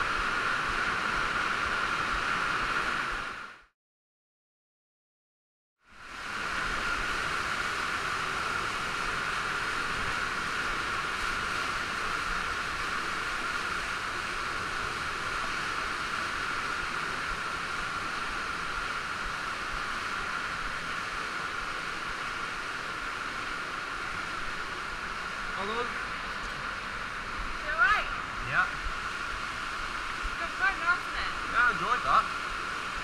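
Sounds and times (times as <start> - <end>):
water rushing in a cave: 0.0 - 3.7, 5.8 - 33.0.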